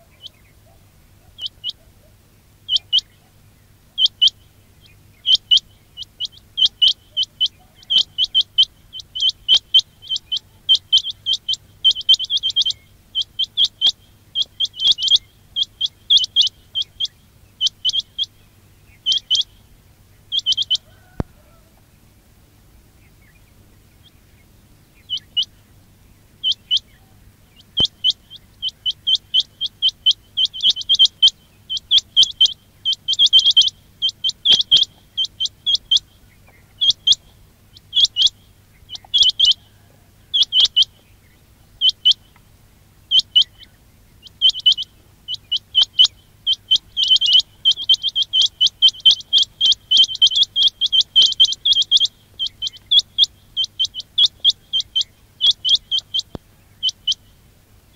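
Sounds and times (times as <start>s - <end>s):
quail chirping: 0.0s - 22.0s, 22.9s - 57.9s.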